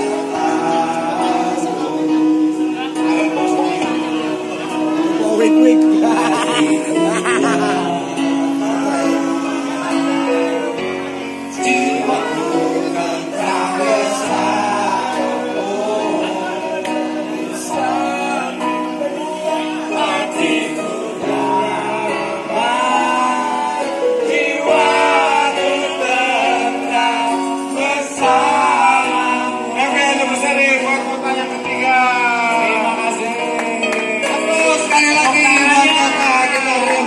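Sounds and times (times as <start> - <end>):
singing voices over held chords: 0.0 - 37.0.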